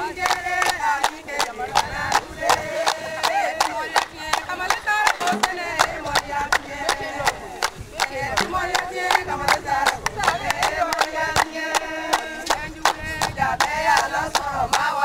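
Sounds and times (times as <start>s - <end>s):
rhythmic hand clapping: 0.0s - 15.0s
women singing in chorus: 0.0s - 15.0s.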